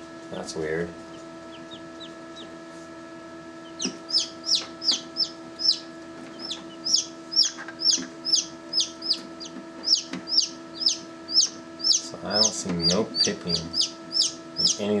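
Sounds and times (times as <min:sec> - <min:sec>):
steady hum: 0:00.0 - 0:15.0
chicks peeping: 0:00.3 - 0:15.0.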